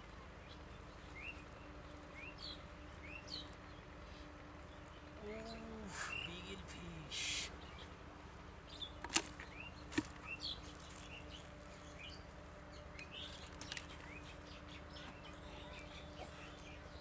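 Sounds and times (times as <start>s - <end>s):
faint steady hum: 0.0s - 17.0s
small birds chirping: 0.0s - 17.0s.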